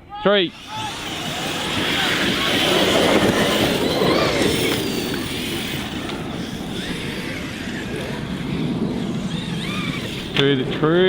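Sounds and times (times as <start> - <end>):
electric motor whine: 0.5 - 11.0
tyres rushing over dirt: 0.5 - 11.0.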